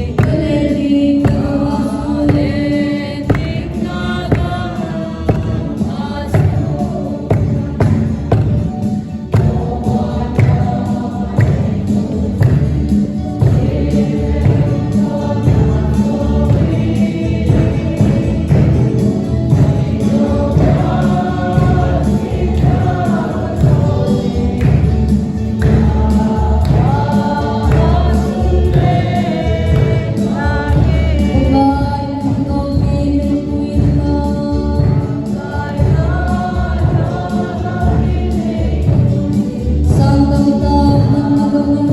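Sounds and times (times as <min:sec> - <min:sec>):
gospel choir singing: 0:00.0 - 0:41.9.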